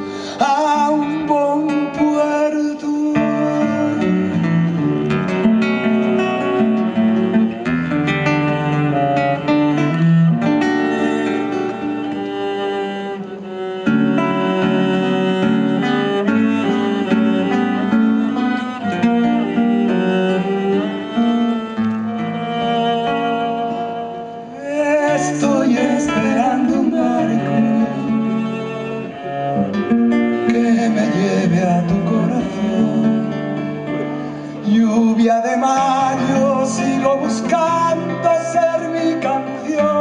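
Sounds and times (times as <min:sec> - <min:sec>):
acoustic band music: 0:00.0 - 0:40.0.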